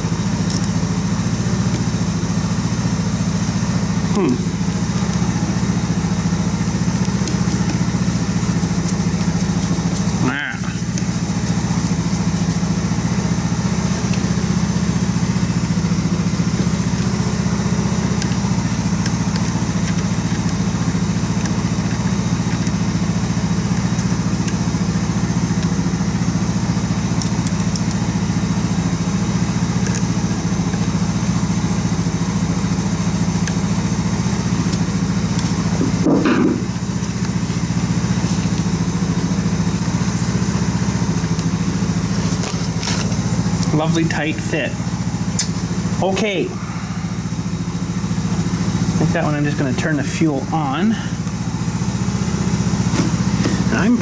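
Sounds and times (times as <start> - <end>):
dirt bike engine idling: 0.0 - 54.0.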